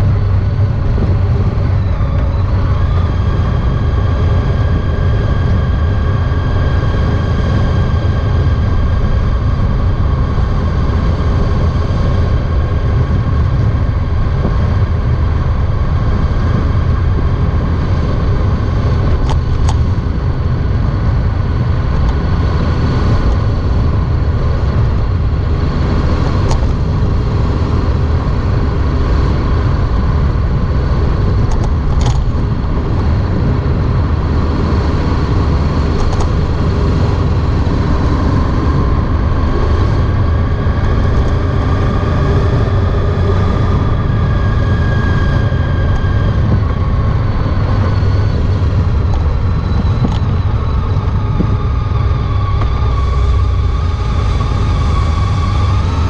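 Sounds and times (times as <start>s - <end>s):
motorcycle engine cruising: 0.0s - 56.0s
steady whine: 0.0s - 56.0s.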